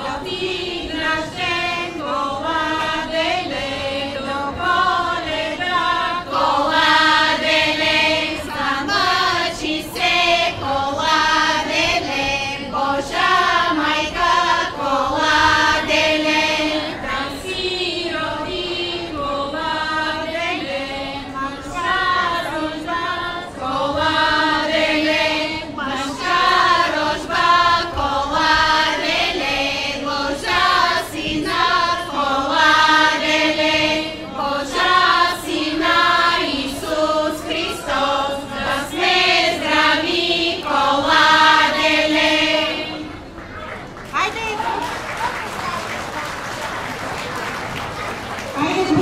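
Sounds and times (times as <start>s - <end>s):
women's folk choir singing: 0.0s - 43.4s.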